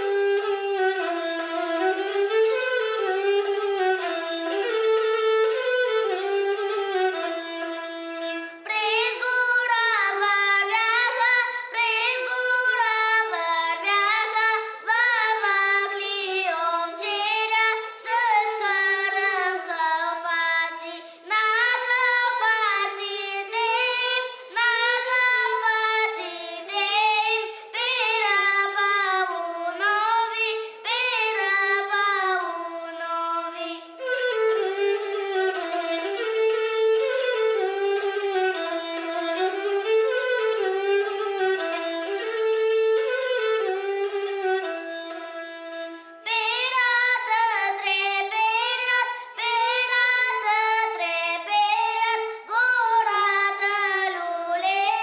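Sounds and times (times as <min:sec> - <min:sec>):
boy singing folk song: 0:00.0 - 0:07.2, 0:08.0 - 0:38.2, 0:44.2 - 0:55.0
bowed folk fiddle: 0:00.0 - 0:55.0.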